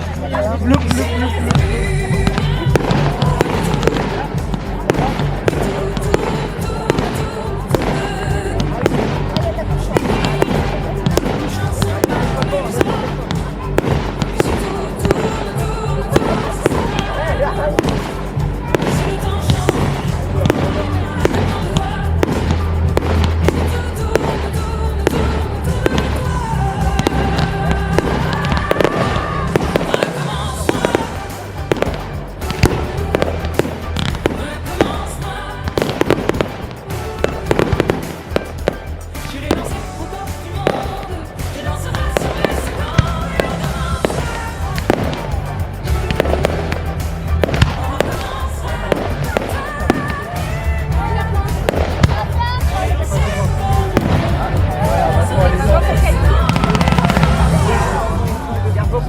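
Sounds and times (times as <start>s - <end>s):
fireworks bangs and crackles: 0.0s - 59.0s
music with steady bass: 0.0s - 59.0s.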